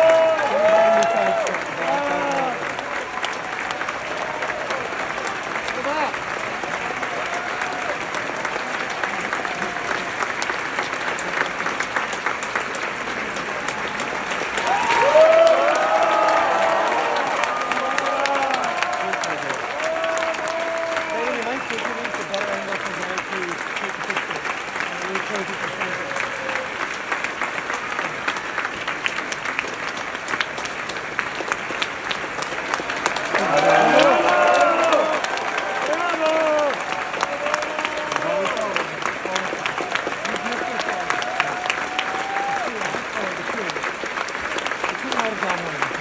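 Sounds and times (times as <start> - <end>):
audience applauding: 0.0 - 46.0
clapping close to microphone: 0.0 - 46.0.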